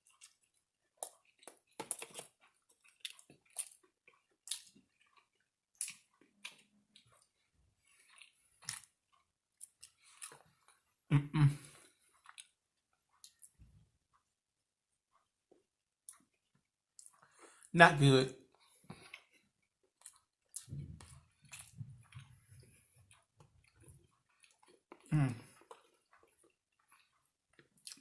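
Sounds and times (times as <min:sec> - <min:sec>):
person chewing crispy chicken: 0:00.0 - 0:14.4, 0:15.1 - 0:17.7, 0:18.4 - 0:28.0.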